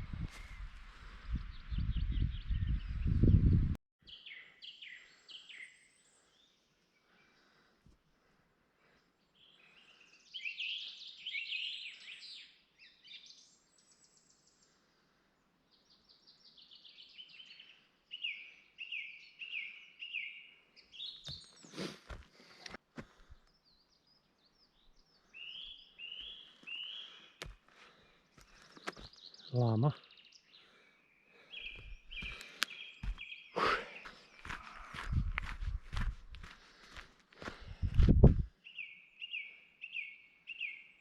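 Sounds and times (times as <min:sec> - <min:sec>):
songbirds chirping: 0:00.2 - 0:41.0.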